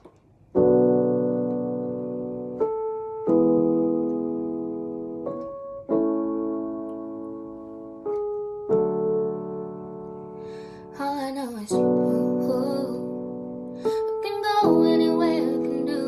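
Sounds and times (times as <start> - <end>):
slow piano notes and chords: 0.0 - 16.0.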